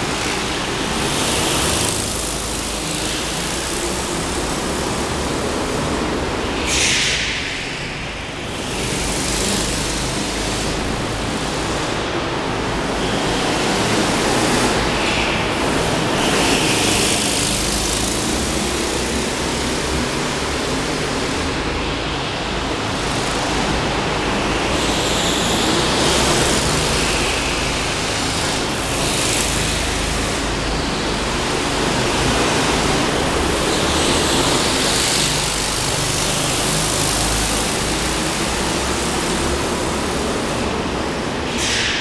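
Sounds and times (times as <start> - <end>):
go-kart engines in echoing hall: 0.0 - 42.0.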